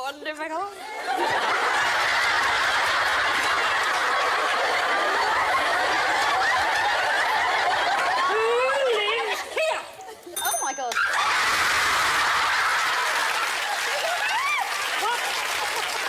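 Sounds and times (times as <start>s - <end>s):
audience of women laughing: 0.8s - 10.4s, 11.1s - 16.0s.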